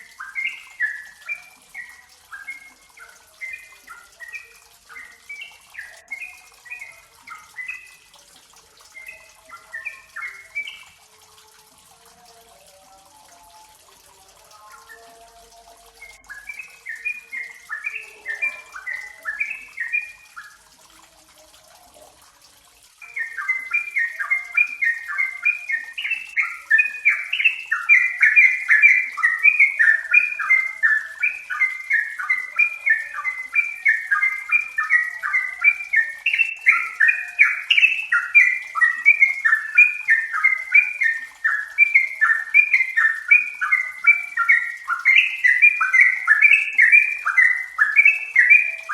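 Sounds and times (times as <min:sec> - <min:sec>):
bird singing rapid notes: 0:00.0 - 0:11.5, 0:13.4 - 0:22.2, 0:23.0 - 0:48.9.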